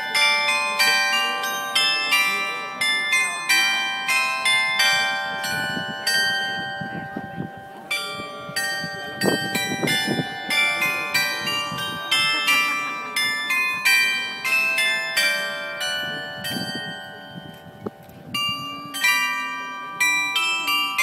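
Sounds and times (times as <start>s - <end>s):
glockenspiel bells playing a melody: 0.0s - 21.0s.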